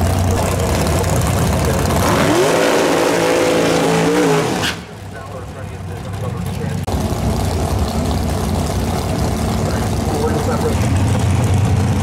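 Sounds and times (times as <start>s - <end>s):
car engine idling: 0.0s - 2.4s, 4.4s - 12.0s
racing engine revving: 0.0s - 12.0s.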